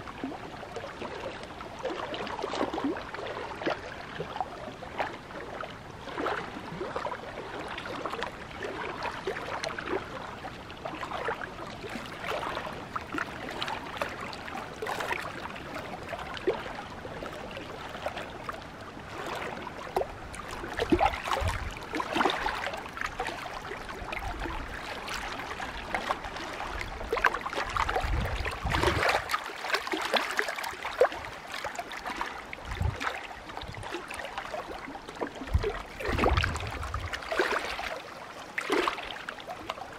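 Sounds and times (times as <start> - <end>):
water slaps and low rumbles: 0.0 - 39.9
waves lapping against rocks: 0.0 - 39.9.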